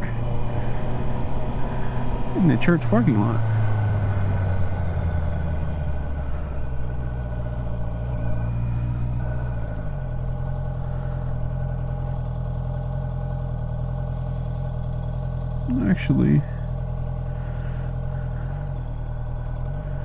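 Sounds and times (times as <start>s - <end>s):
motorcycle engine running low: 0.0s - 20.0s.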